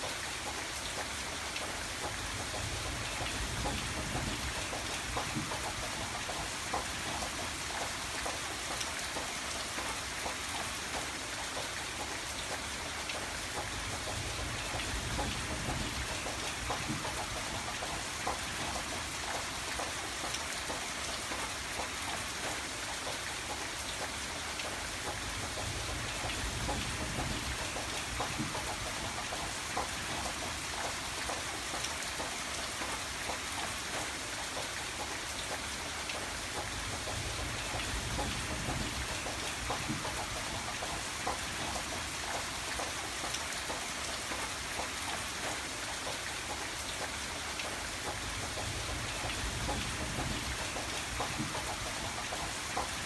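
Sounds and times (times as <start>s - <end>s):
raindrops striking a surface: 0.0s - 53.0s
steady rainfall: 0.0s - 53.0s.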